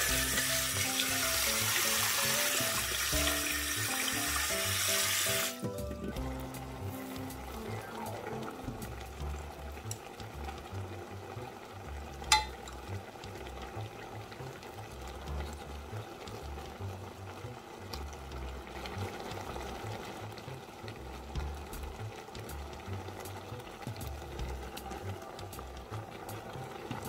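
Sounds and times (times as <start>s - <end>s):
water boiling in a pot: 0.0s - 27.0s.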